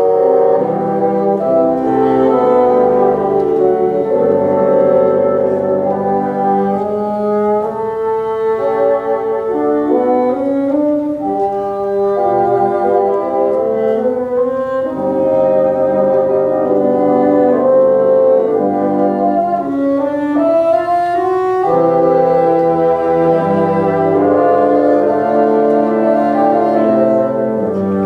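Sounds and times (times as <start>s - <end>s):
bassoon ensemble playing harmony: 0.0s - 28.0s.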